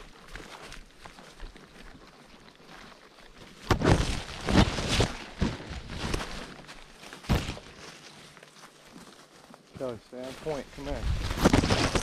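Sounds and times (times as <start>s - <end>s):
footsteps on forest floor: 0.0s - 12.0s.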